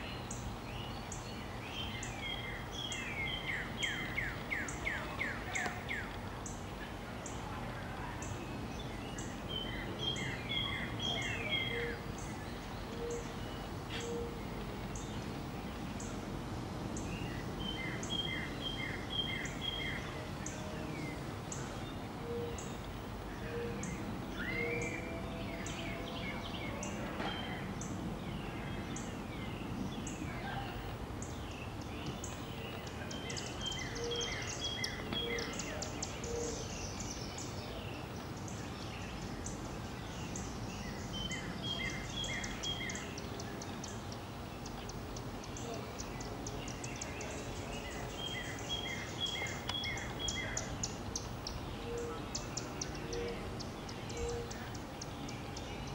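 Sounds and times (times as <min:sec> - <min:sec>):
birds calling: 0:00.0 - 0:16.3, 0:16.9 - 0:55.9
low background noise: 0:00.0 - 0:55.9.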